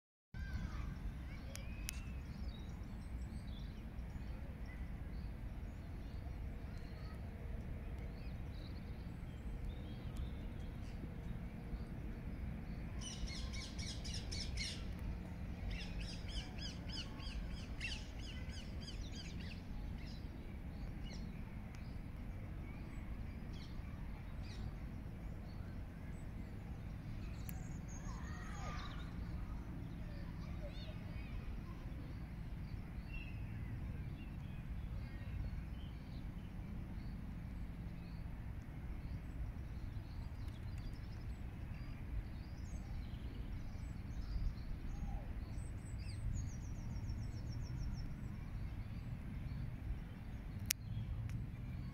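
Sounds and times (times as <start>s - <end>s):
low outdoor rumble: 0.4s - 51.9s
songbirds chirping: 0.4s - 51.9s.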